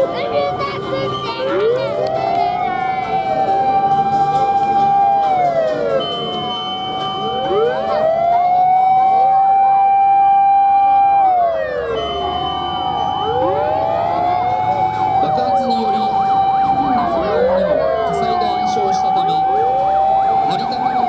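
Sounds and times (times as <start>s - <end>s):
fire engine sirens wailing: 0.0s - 21.0s.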